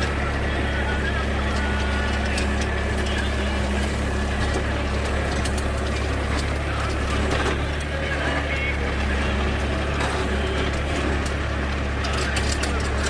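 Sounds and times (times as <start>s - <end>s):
tractor diesel engine humming: 0.0s - 13.0s.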